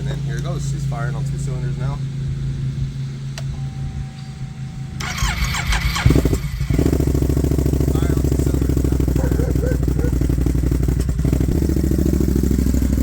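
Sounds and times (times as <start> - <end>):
two-cylinder engine idling: 0.0 - 13.0.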